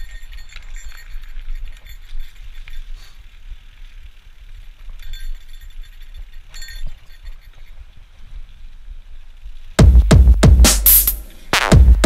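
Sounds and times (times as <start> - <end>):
ringing clinks: 0.0 - 9.7
bicycle parts rattling: 0.0 - 9.8.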